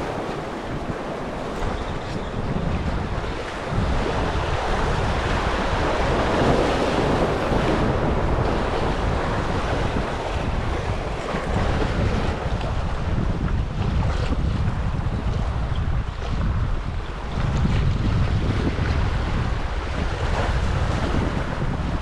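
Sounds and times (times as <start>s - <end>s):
surf washing on shore: 0.0s - 22.0s
wind buffeting microphone: 0.0s - 22.0s.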